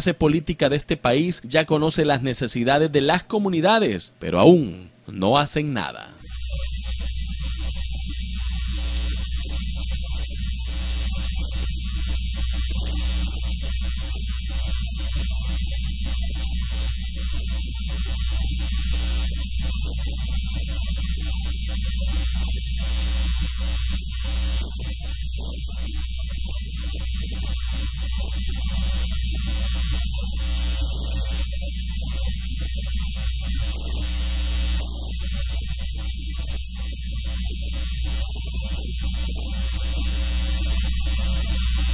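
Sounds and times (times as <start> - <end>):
electrical mains hum and buzz: 0.0 - 41.9.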